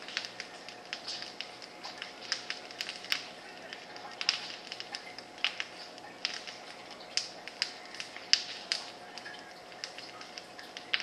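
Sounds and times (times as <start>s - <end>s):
faint steady hum: 0.0s - 11.0s
sharp clicks and snaps: 0.0s - 11.0s.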